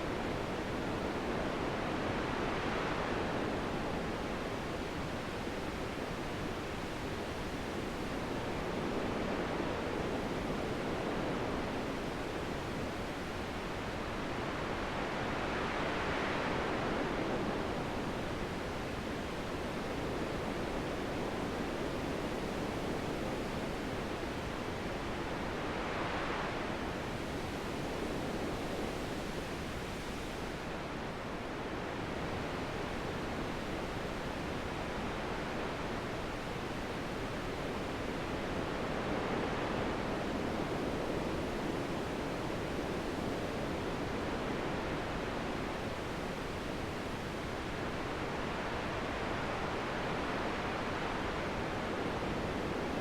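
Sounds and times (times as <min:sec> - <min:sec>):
wind blowing in gusts: 0:00.0 - 0:53.0.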